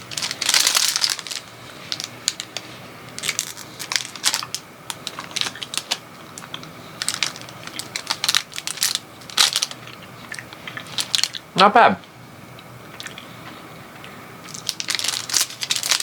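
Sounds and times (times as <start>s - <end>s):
plastic wrapper crinkling: 0.0s - 11.4s, 14.4s - 16.0s.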